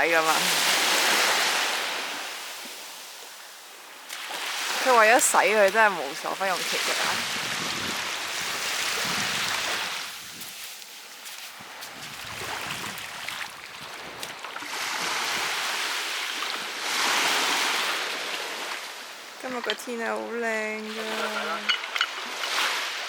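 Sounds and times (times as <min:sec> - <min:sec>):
sea waves washing ashore: 0:00.0 - 0:23.0.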